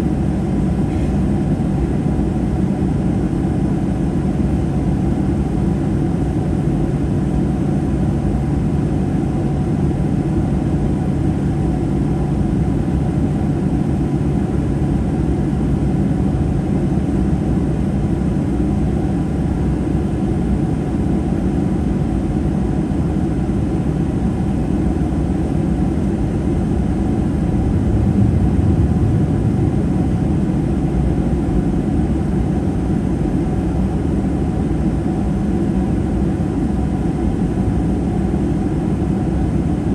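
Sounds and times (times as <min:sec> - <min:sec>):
airplane cabin engine rumble: 0:00.0 - 0:39.9
steady hum: 0:00.0 - 0:39.9.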